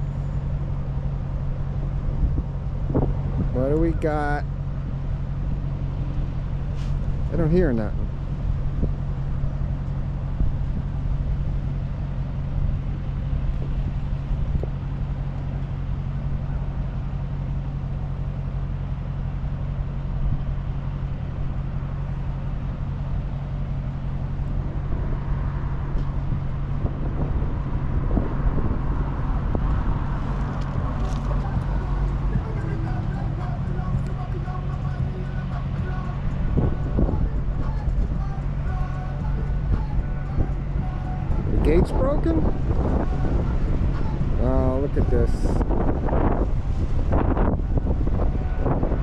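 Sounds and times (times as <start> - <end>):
road traffic noise: 0.0 - 49.0
vehicle engine idling: 0.0 - 49.0.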